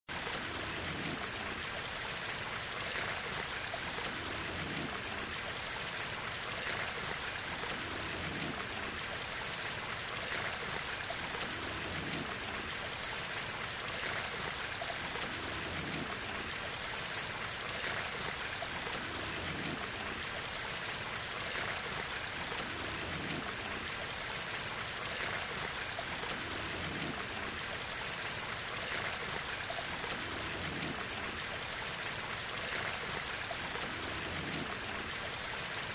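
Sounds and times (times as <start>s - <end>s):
stream water running over rock: 0.1s - 35.9s.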